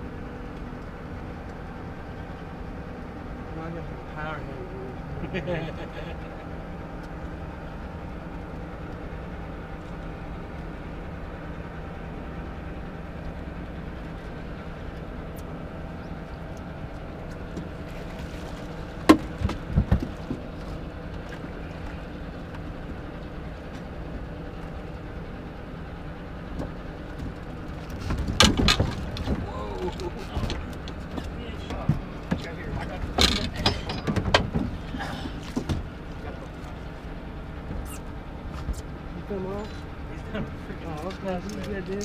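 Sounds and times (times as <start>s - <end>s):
boat motor humming: 0.0s - 42.0s.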